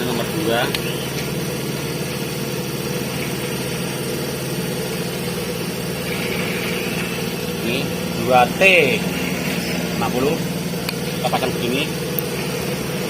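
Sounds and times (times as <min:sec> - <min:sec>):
machine droning: 0:00.0 - 0:13.0.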